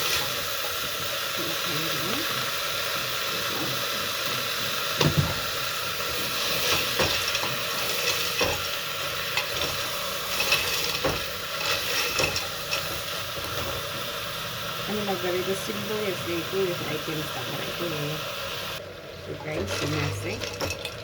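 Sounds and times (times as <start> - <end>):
food sizzling in oil: 0.0 - 18.8.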